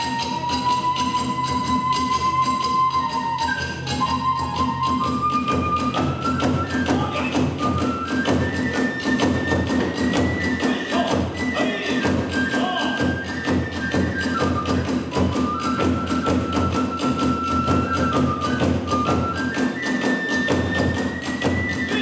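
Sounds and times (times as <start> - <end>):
bamboo flute melody: 0.0 - 22.0.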